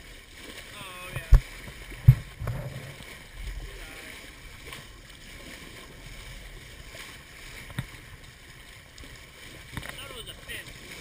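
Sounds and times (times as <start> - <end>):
water rushing along a boat hull: 0.0 - 11.0.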